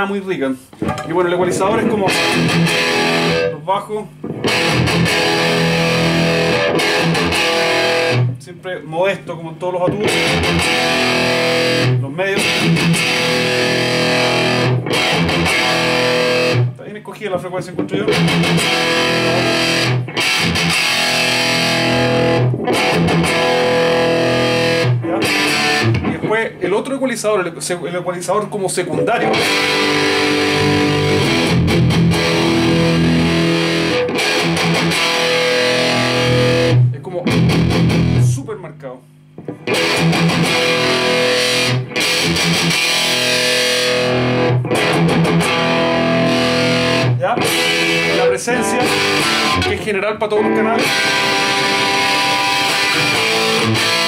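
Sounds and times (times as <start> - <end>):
distorted electric guitar chords: 0.6 - 8.4, 9.8 - 16.8, 17.8 - 26.6, 28.8 - 54.0.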